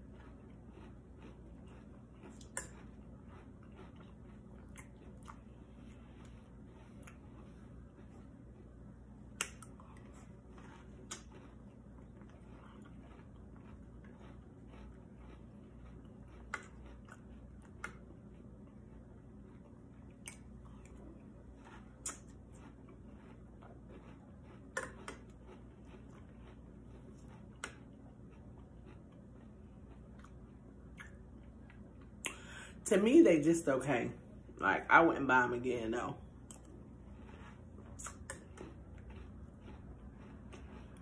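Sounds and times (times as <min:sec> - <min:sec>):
faint chewing of cereal: 0:00.0 - 0:41.0.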